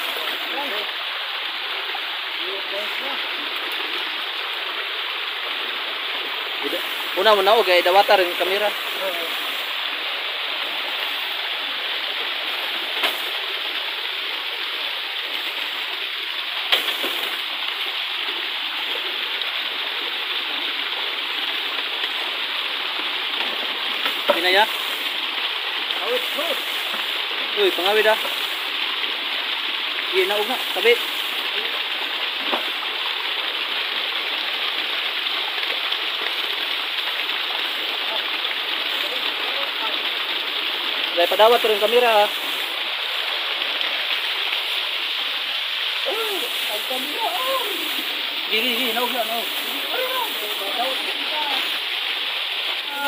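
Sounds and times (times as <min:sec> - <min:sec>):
stream water flowing: 0:00.0 - 0:53.0.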